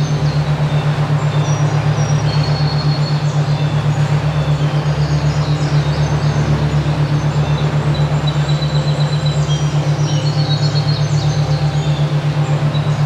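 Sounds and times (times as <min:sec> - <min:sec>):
birds chirping: 0:00.0 - 0:13.0
low throbbing hum: 0:00.0 - 0:13.0.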